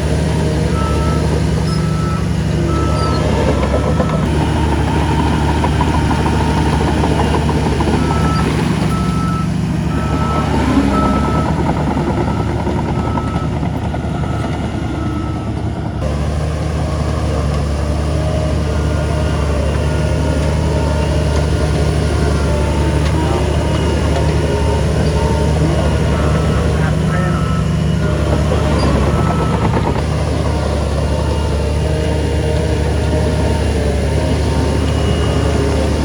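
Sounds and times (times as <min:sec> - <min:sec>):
heavy diesel engines running: 0:00.0 - 0:36.0
reversing alarm beeping: 0:00.4 - 0:15.8, 0:16.7 - 0:36.0.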